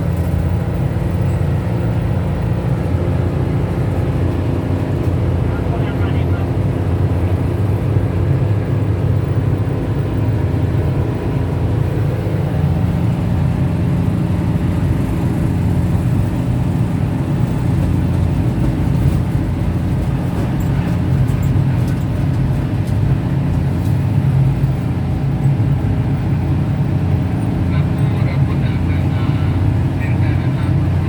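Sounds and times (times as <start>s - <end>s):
train carriage rumbling: 0.0s - 31.0s.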